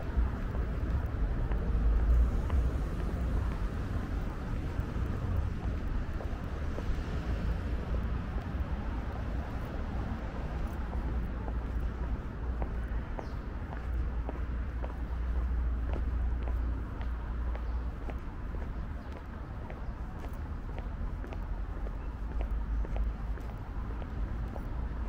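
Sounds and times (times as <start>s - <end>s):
low rumble of road traffic: 0.0s - 25.0s.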